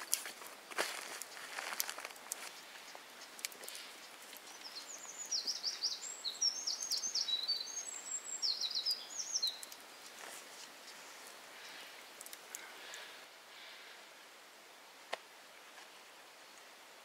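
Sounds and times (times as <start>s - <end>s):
songbird chirping: 0.0s - 14.1s
faint background hiss: 0.0s - 17.0s.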